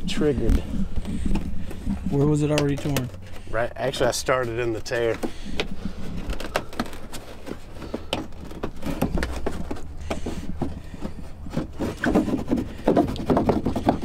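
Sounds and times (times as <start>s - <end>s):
plastic bumper scraping and creaking: 0.0s - 14.0s.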